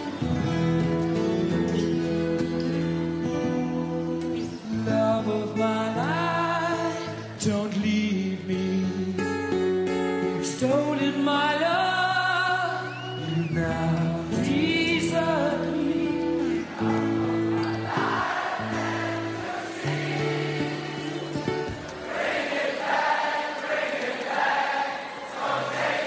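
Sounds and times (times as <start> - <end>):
slow song with singing voice: 0.0 - 23.3.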